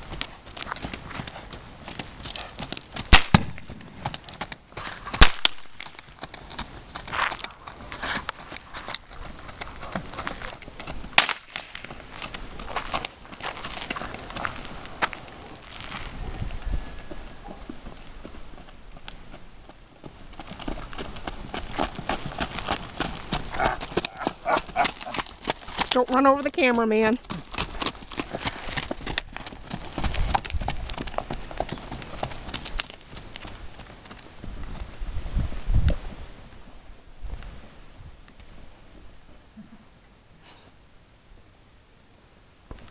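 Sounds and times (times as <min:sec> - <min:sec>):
horse hoofbeats on dirt: 0:00.0 - 0:36.0.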